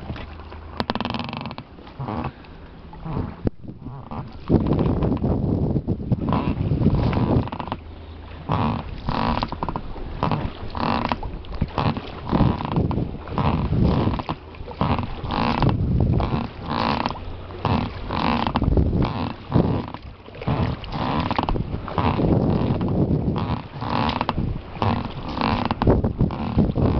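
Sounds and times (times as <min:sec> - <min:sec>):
oar strokes in water: 0:00.0 - 0:26.9
oars creaking in oarlocks: 0:00.0 - 0:26.9.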